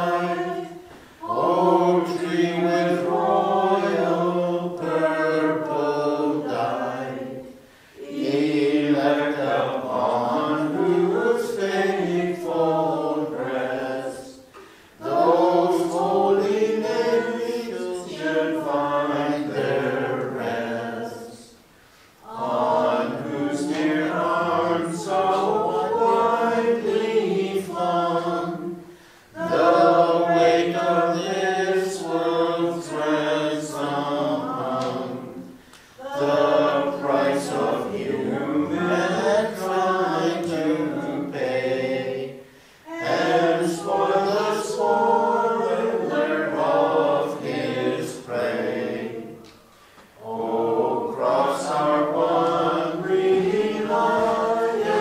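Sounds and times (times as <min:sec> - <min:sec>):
choir chanting unaccompanied: 0:00.0 - 0:55.0.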